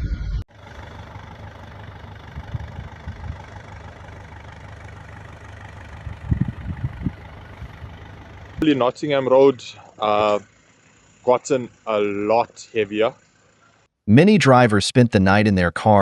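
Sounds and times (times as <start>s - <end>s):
vehicle engine idling: 0.0s - 13.9s.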